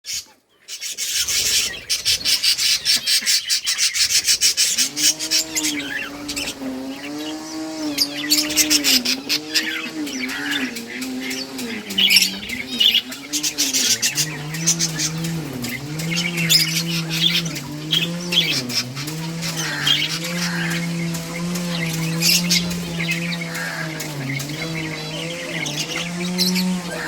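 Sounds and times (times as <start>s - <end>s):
budgies chirping and chattering: 0.1s - 27.0s
low wavering hum: 4.4s - 27.0s.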